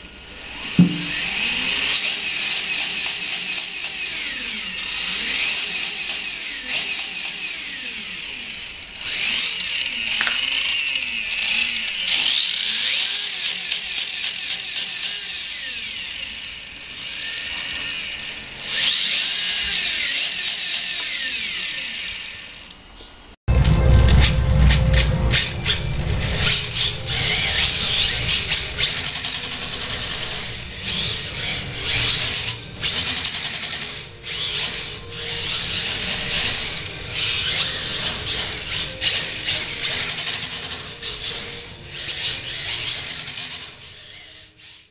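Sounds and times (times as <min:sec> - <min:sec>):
electric motor whining: 0:00.0 - 0:22.9, 0:23.5 - 0:44.9.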